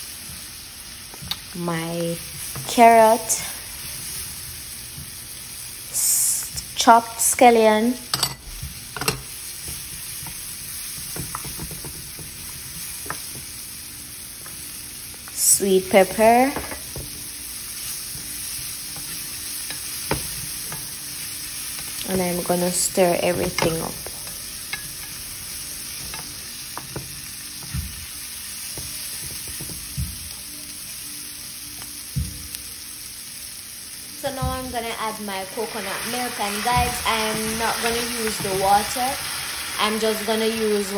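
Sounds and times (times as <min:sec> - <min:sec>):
vegetables sizzling in a frying pan: 0:00.0 - 0:40.9.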